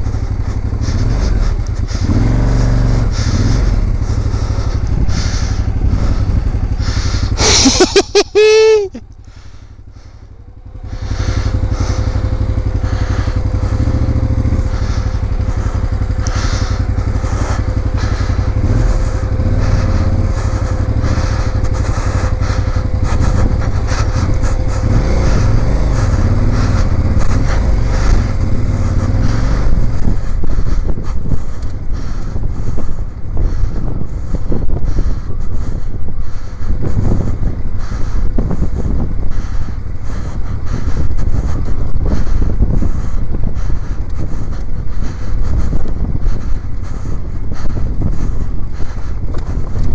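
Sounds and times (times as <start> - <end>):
motorcycle engine running: 0.0 - 49.9
steady whine: 0.0 - 49.9.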